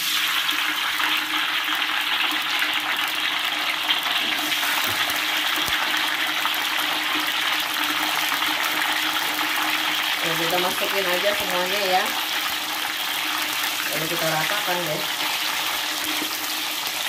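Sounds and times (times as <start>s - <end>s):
beans sizzling in hot oil: 0.0s - 17.0s.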